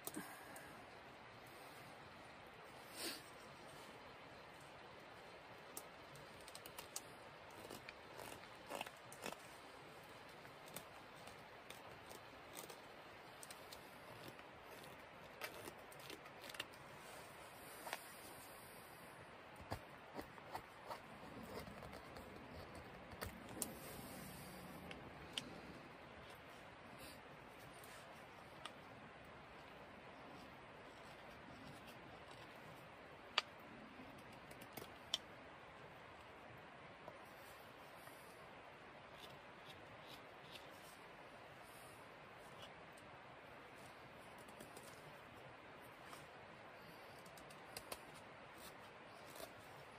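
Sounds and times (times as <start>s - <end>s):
low hiss: 0.0s - 49.9s.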